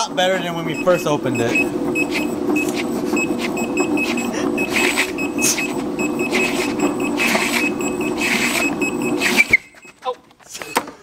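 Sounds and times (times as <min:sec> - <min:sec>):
electric motor hum: 0:00.0 - 0:09.9
high electronic beeps: 0:00.7 - 0:10.1.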